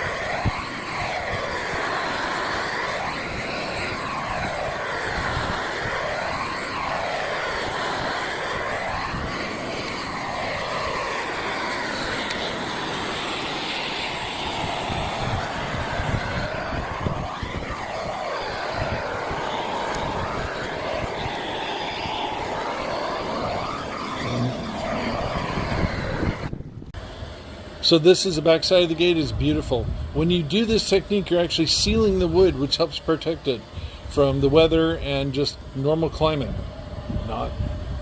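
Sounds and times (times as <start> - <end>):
propane torch roaring: 0.0 - 38.0.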